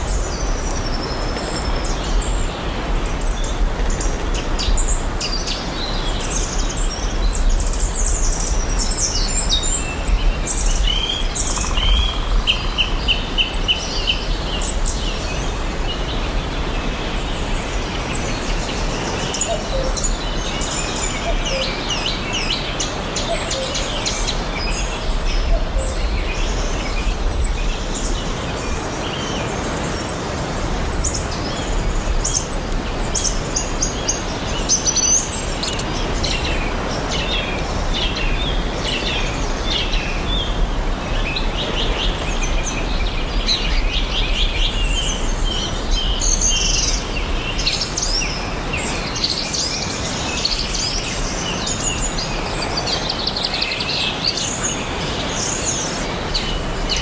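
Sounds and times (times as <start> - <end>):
outdoor ambience hiss: 0.0 - 57.0
songbirds chirping and trilling: 0.0 - 57.0.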